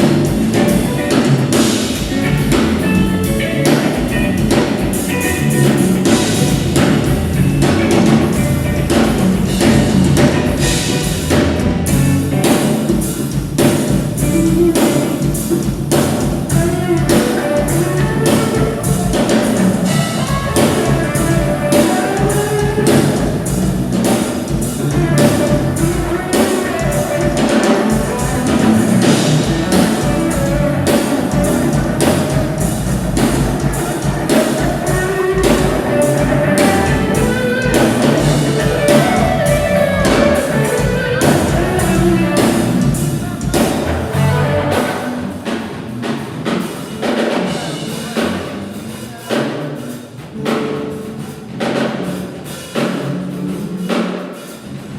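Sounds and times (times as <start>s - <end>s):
pitched instruments playing: 0.0s - 49.2s
drum kit playing fast: 0.0s - 54.9s.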